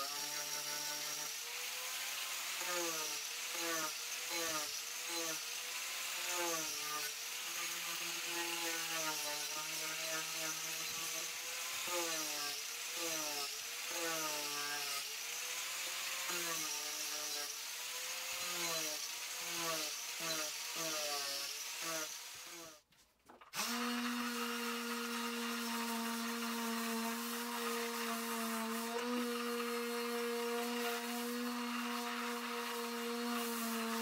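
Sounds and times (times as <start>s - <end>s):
angle grinder carving wood: 0.0s - 22.9s, 23.5s - 34.0s.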